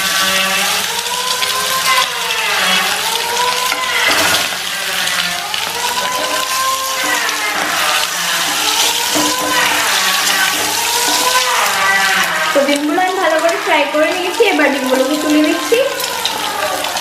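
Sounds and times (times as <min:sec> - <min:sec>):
eggs sizzling in hot oil: 0:00.0 - 0:17.0.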